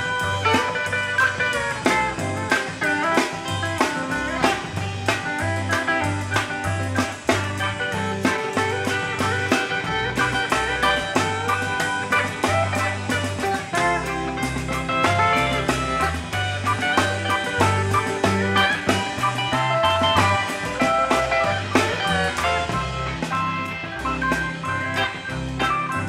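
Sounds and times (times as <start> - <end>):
country band playing: 0.0 - 26.0
pedal steel guitar sliding notes: 0.0 - 26.0.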